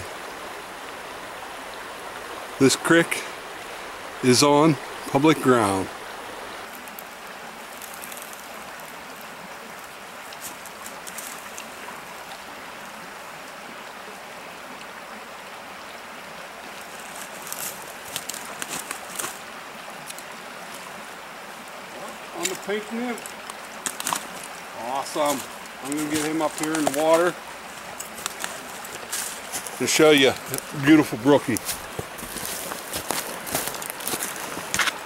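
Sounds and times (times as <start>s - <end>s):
stream running over rocks: 0.0s - 35.0s.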